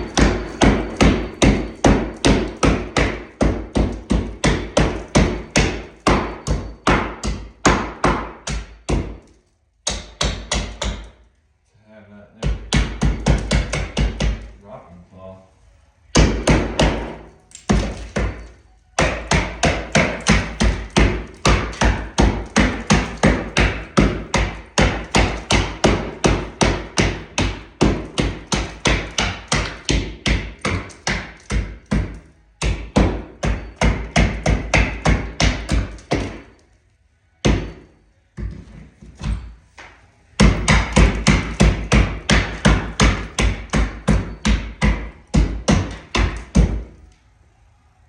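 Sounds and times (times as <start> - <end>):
hammer blows on plaster wall: 0.0 - 11.2, 12.4 - 14.5, 16.1 - 36.7, 37.4 - 47.0.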